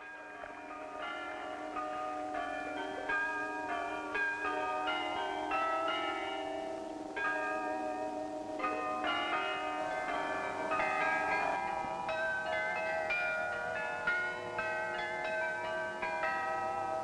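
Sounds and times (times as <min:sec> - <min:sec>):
bells playing a slow tune: 0:00.0 - 0:17.0.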